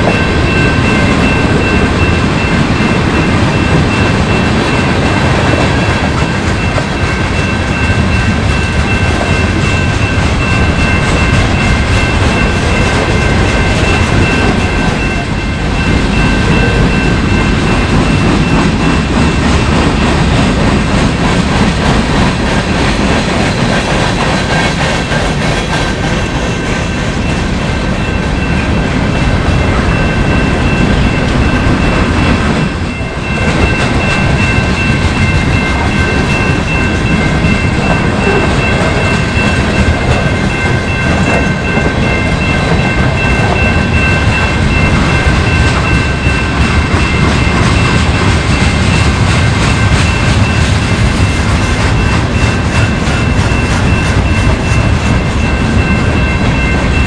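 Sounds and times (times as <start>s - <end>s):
train wheels rumbling and clattering: 0.0s - 57.0s.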